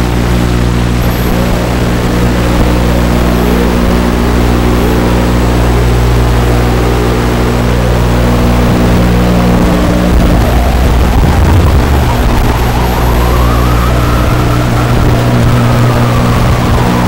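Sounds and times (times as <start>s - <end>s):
loud steady hum: 0.0s - 17.0s
toy truck motor whine: 0.0s - 17.0s.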